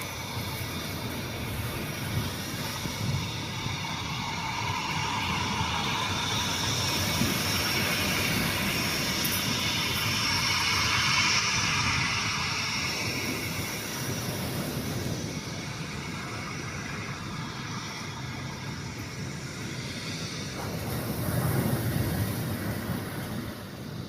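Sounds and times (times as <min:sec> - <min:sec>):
jet engines rushing rumble: 0:00.0 - 0:24.0.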